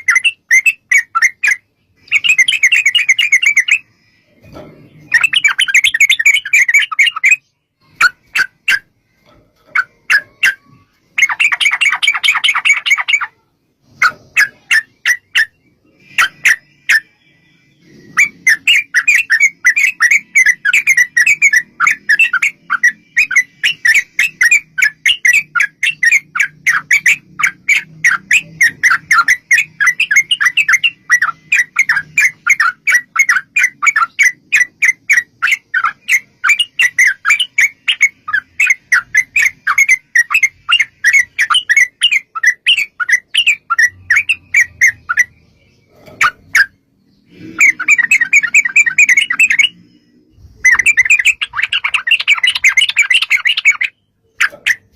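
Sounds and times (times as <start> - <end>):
bird singing bubbly chattering notes: 0.0 - 4.2, 4.9 - 8.9, 9.7 - 54.9.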